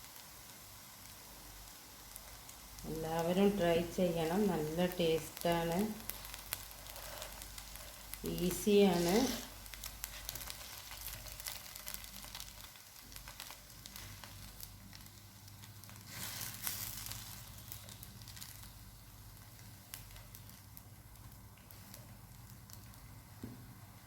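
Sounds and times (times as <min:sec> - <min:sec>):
frying sizzle with crackling pops: 0:00.0 - 0:24.0.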